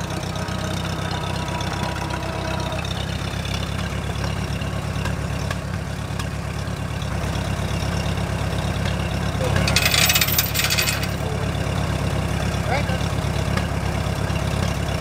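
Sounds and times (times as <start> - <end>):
tractor engine running at low speed: 0.0 - 15.0.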